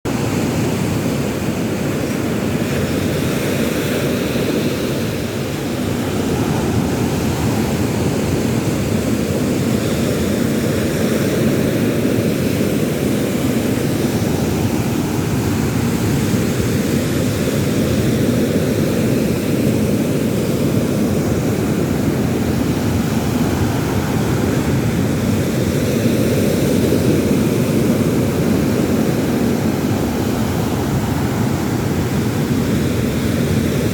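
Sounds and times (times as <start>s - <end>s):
wind: 0.0s - 33.9s
surf roaring: 0.1s - 33.9s.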